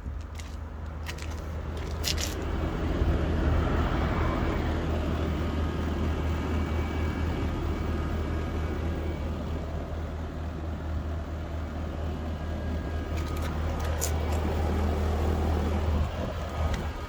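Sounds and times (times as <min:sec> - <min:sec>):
heat pump low hum: 0:00.0 - 0:17.0.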